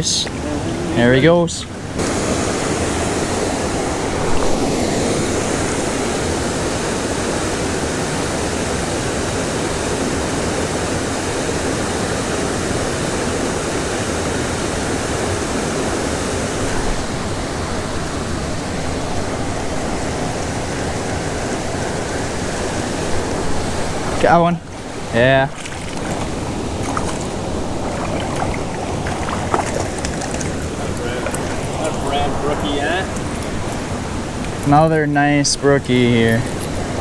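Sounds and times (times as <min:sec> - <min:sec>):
waterfall rushing water: 0:00.0 - 0:37.0.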